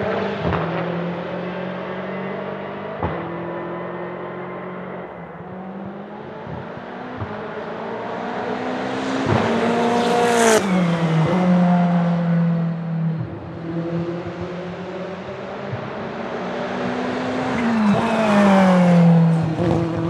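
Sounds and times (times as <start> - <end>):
race car accelerating past: 0.0 - 20.0.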